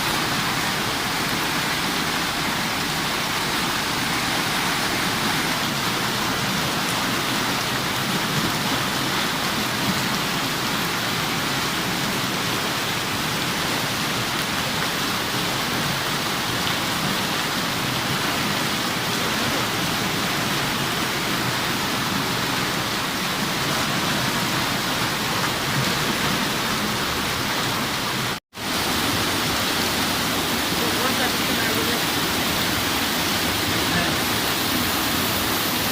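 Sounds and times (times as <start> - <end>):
heavy rain hissing: 0.0 - 35.9.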